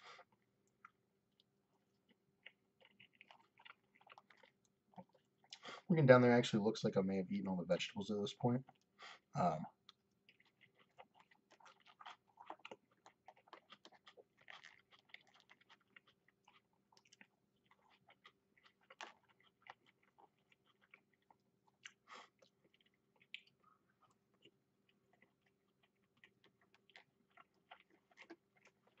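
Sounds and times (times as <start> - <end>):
man chewing food: 0.0 - 5.9, 8.6 - 29.0.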